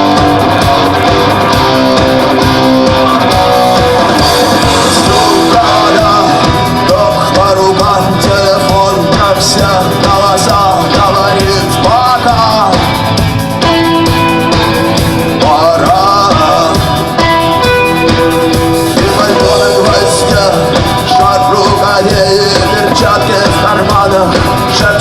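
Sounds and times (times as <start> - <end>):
person singing: 0.0 - 13.1, 14.5 - 25.0
rock band with guitar: 0.0 - 25.0.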